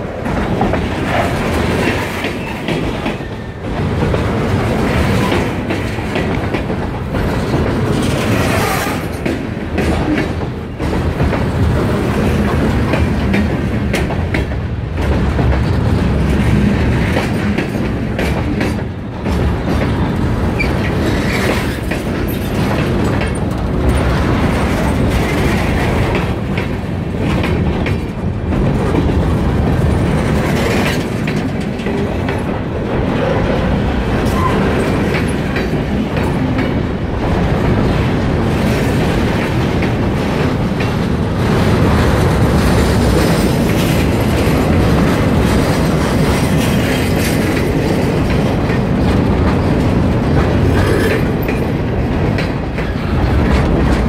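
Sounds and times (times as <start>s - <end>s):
freight train rumbling past: 0.0s - 54.0s
train wheels clacking over rail joints: 0.0s - 54.0s.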